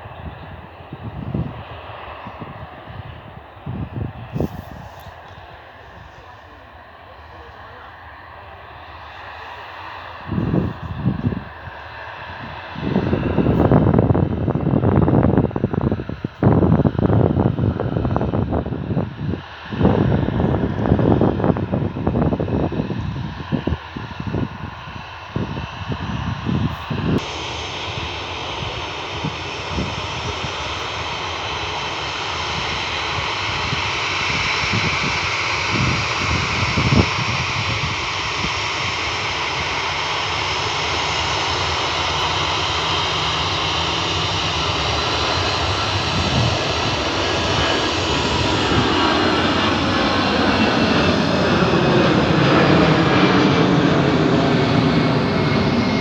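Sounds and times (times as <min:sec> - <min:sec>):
jet airliner engines: 0:00.0 - 0:56.0.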